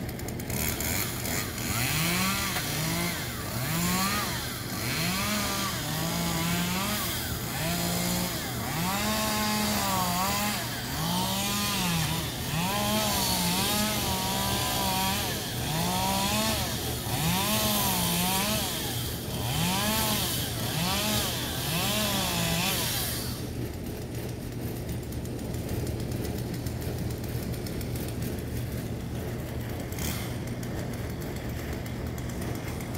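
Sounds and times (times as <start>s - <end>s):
chainsaw revving while cutting: 0.0s - 32.9s.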